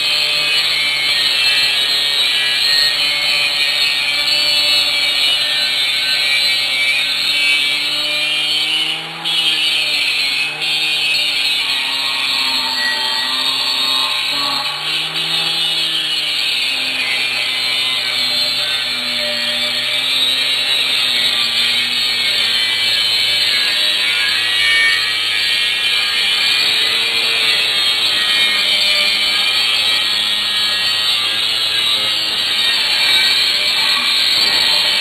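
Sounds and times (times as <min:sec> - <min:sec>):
angle grinder cutting steel: 0:00.0 - 0:35.0.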